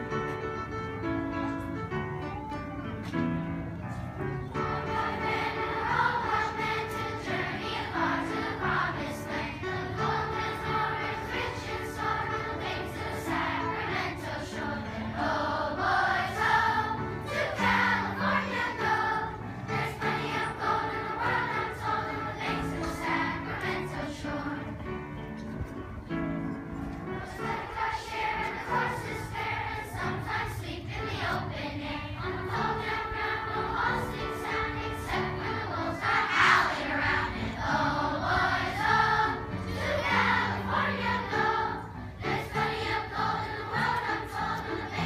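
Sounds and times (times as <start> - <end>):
children's choir singing: 0.0 - 45.0.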